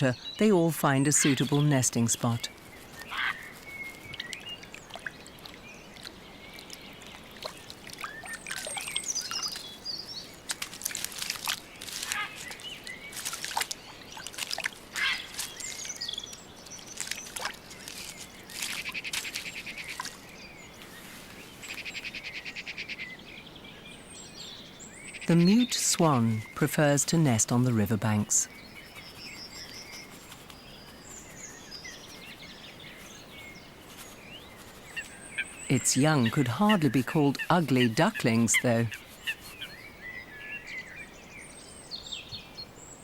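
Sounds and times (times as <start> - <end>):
birds singing and calling: 0.0 - 43.0.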